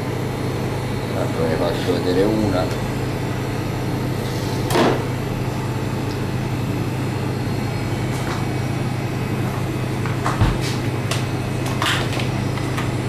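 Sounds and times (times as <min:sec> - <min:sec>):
kitchen machinery humming: 0:00.0 - 0:13.0.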